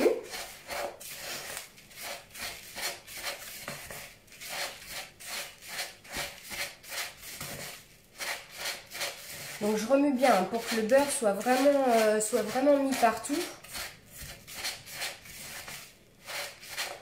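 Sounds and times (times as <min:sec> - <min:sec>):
spatula scraping crumbs in bowl: 0:00.0 - 0:17.0.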